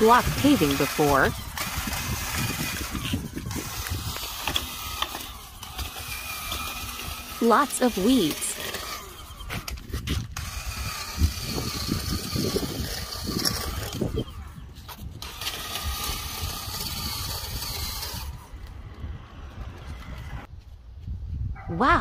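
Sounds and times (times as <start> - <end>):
patio cleaner motor whirring: 0.0 - 20.5.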